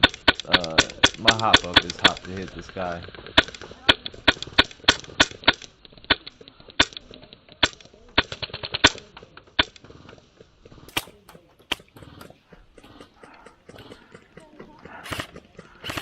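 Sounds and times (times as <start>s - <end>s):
airsoft rifle shots: 0.0s - 9.9s, 10.8s - 14.0s, 14.9s - 16.0s.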